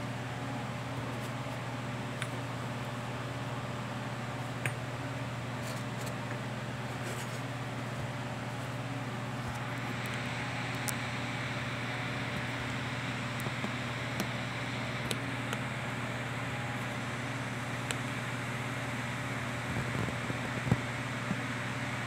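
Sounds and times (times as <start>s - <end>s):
room hum and hiss: 0.0s - 22.0s.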